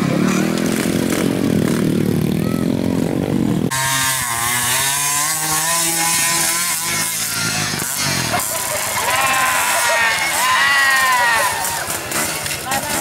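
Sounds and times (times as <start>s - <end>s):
trail bike engines revving: 0.0s - 13.0s.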